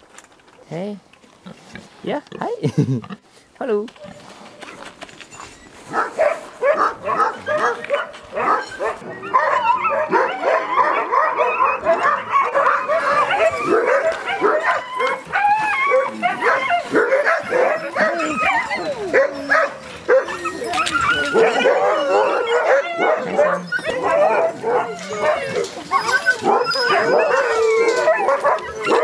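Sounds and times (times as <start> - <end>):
many dogs barking and whining: 5.6 - 29.0.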